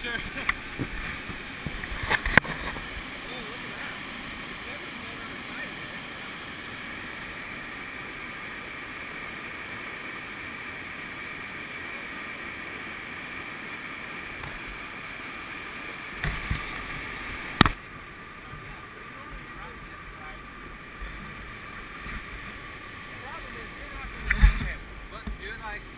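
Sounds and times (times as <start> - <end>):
whitewater rushing down a creek: 0.0 - 25.9.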